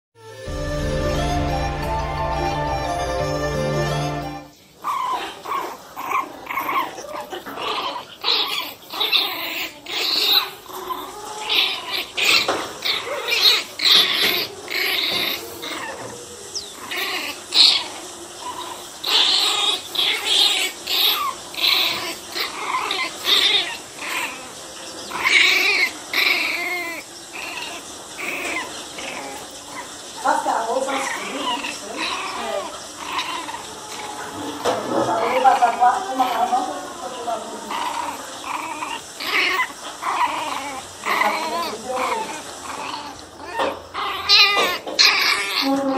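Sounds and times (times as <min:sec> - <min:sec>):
puppies yapping: 0:00.3 - 0:45.9.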